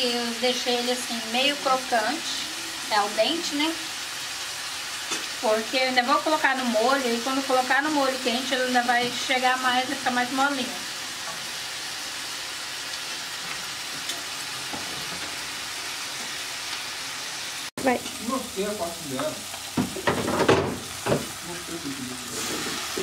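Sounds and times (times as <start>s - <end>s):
food sizzling on stove: 0.0s - 23.0s.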